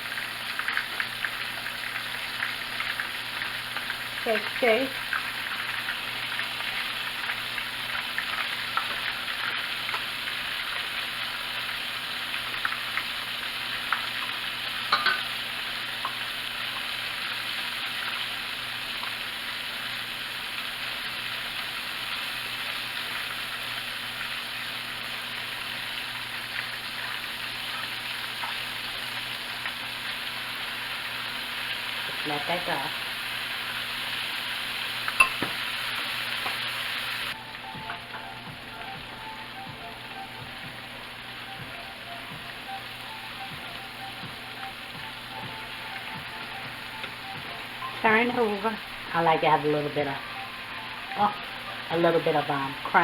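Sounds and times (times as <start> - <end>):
chicken frying in hot oil: 0.0 - 53.0.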